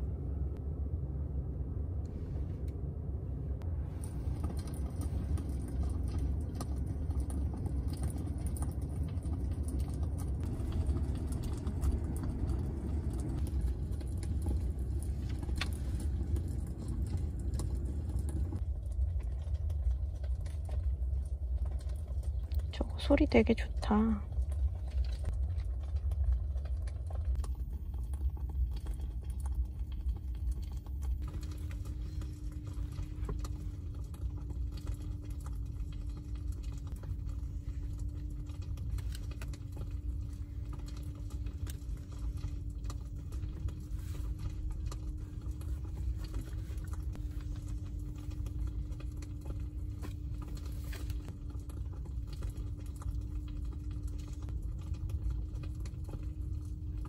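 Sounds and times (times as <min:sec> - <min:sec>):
climate system hum: 0:00.0 - 0:57.0
faint constant tone: 0:00.0 - 0:57.0.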